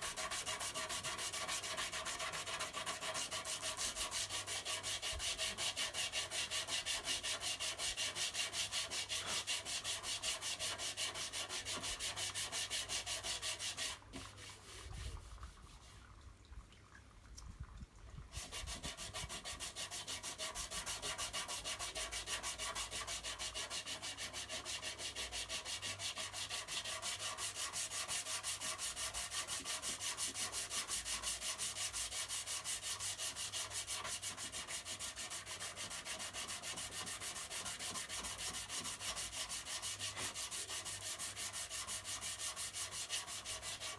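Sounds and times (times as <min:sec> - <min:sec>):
sandpaper sanding filler: 0:00.0 - 0:15.2, 0:18.4 - 0:43.9.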